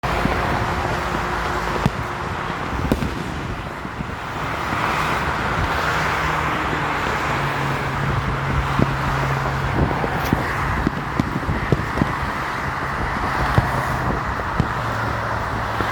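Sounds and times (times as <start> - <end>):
freeway traffic: 0.0 - 15.9
fireworks pops: 0.1 - 6.4, 8.6 - 15.9.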